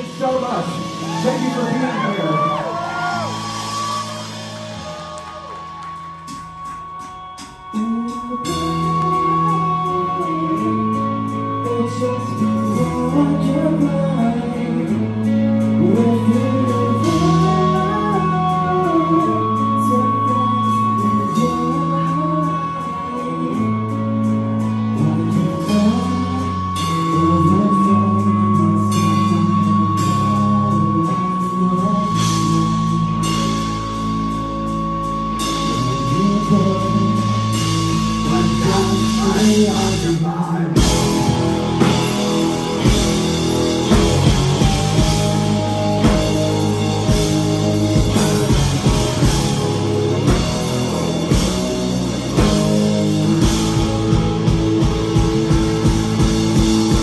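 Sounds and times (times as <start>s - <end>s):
drums: 0.0s - 57.0s
live rock band playing: 0.0s - 57.0s.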